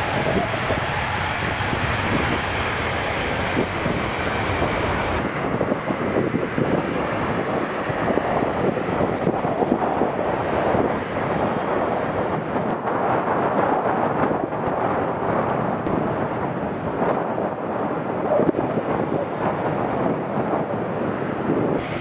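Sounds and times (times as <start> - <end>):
jet airliner rolling on ground: 0.0 - 22.0
jet engines rushing: 0.0 - 22.0.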